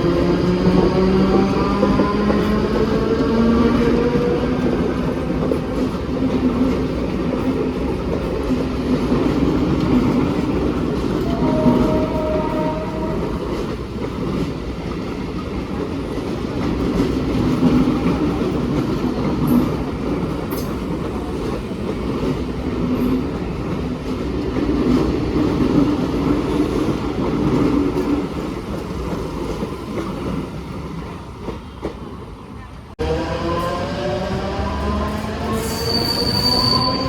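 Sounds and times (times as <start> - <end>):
train rumbling along track: 0.0 - 37.0.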